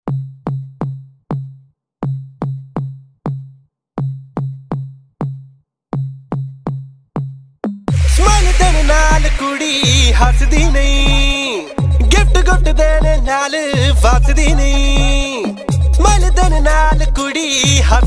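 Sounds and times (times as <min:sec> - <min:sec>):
drum machine bass drum beat: 0:00.1 - 0:05.4, 0:06.0 - 0:18.0.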